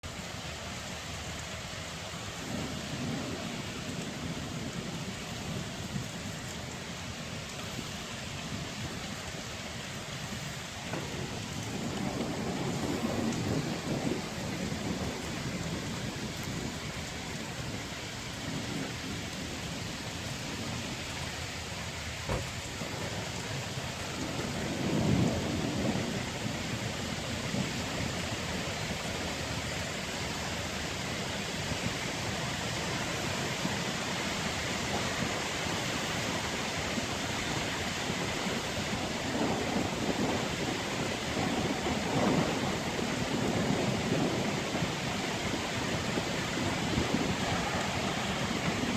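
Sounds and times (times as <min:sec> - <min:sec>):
heavy rain falling: 0:00.0 - 0:48.9
low rumbles of thunder: 0:00.6 - 0:48.9.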